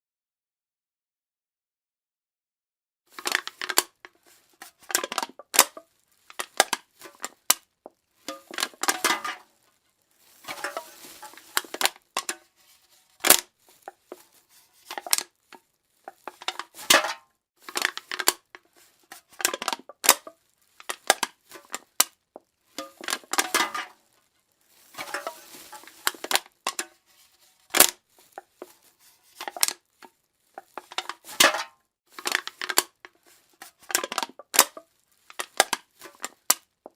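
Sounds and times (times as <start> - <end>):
drink can crushing: 3.1 - 9.6, 10.2 - 36.9.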